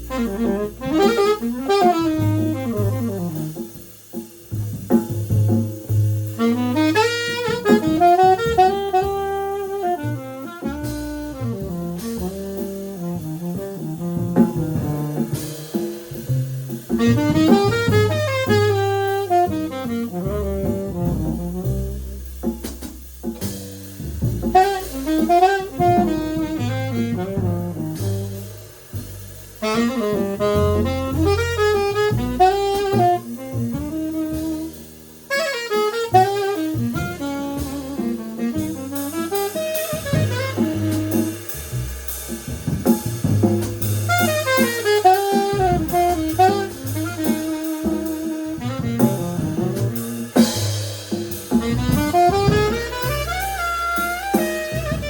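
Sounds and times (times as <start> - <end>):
alto saxophone melody: 0.0 - 4.2, 6.1 - 22.4, 23.6 - 55.0
bass: 0.0 - 55.0
drum kit: 0.0 - 55.0.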